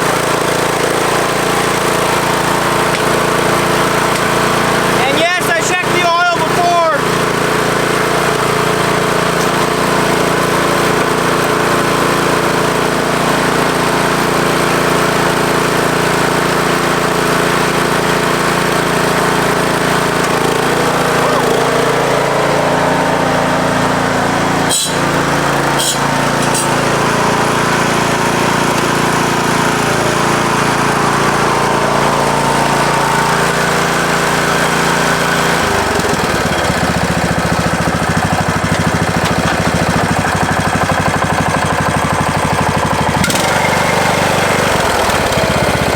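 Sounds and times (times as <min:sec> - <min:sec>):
riding mower engine running: 0:00.0 - 0:45.9.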